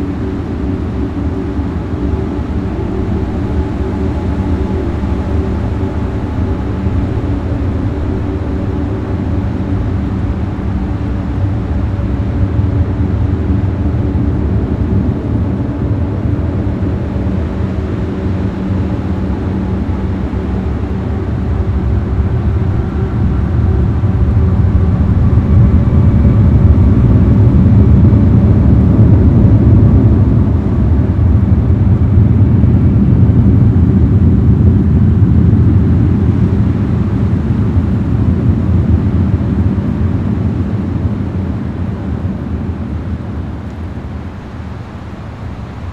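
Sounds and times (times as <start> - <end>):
low droning rumble: 0.0 - 45.9.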